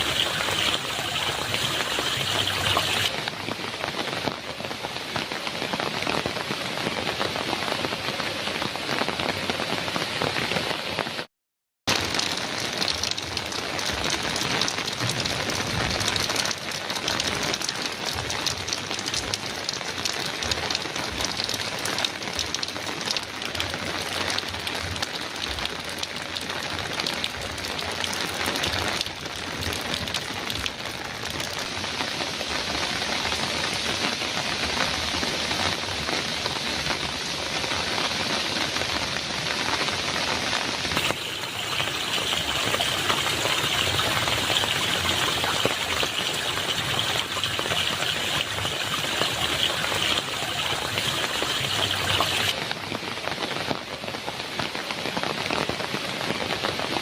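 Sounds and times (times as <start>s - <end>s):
heavy rain on metal roof: 0.0s - 11.3s, 11.9s - 57.0s.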